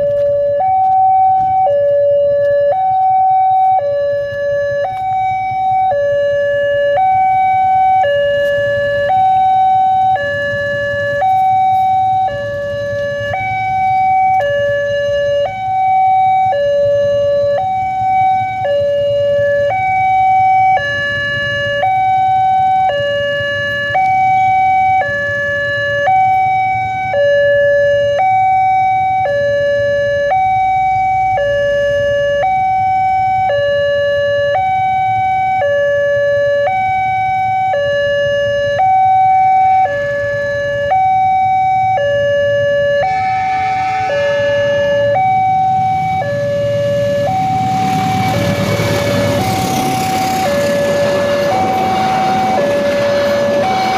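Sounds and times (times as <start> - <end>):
level crossing two-tone alarm: 0.0 - 53.9.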